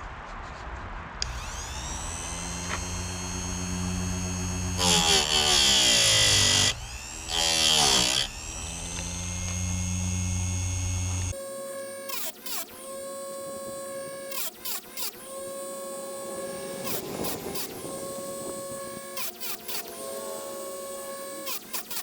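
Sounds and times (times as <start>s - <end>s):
sharpener motor humming: 1.2s - 22.0s
grinding wheel rasping on chain: 1.4s - 22.0s.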